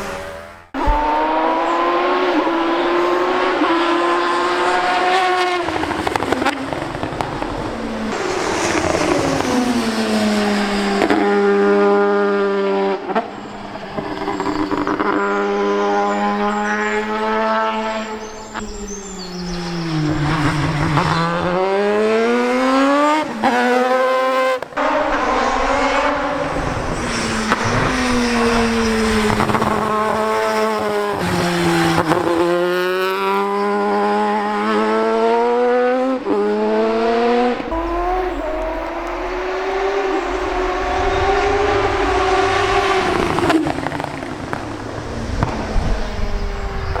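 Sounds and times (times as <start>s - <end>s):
rotary engine revving hard: 0.0s - 47.0s.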